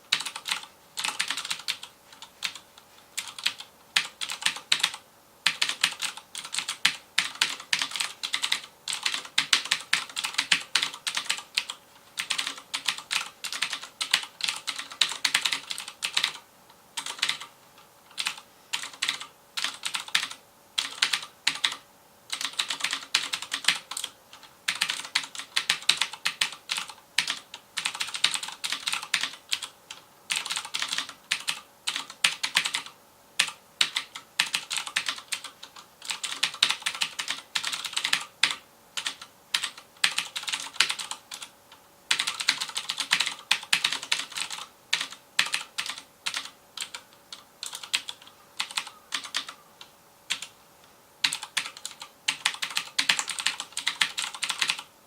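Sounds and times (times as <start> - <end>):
fast typing on mechanical keyboard: 0.1 - 2.6, 3.2 - 16.4, 17.0 - 17.5, 18.1 - 41.5, 42.1 - 49.6, 50.3 - 50.5, 51.2 - 54.9.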